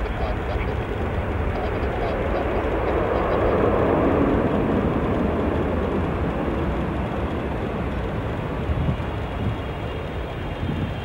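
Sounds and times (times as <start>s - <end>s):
jet engines rushing: 0.0s - 11.0s.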